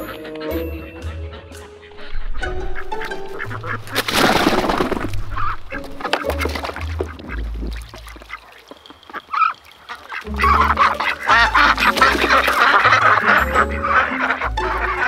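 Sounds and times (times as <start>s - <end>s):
background music: 0.0s - 8.4s, 10.2s - 15.0s
ducks quacking: 0.0s - 15.0s.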